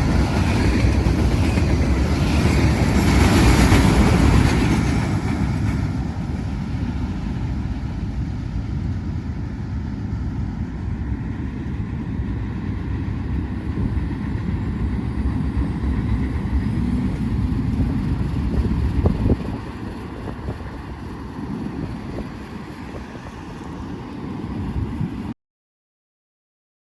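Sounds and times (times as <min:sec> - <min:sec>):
train rolling past: 0:00.0 - 0:25.4.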